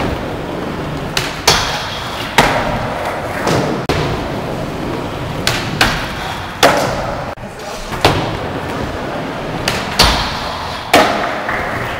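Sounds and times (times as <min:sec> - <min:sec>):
skateboard wheels rolling: 0:00.0 - 0:11.9.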